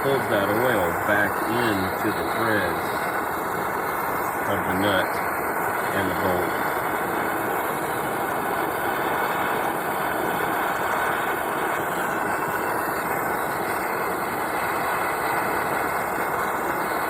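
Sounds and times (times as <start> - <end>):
gas torch flame hissing: 0.0 - 17.0.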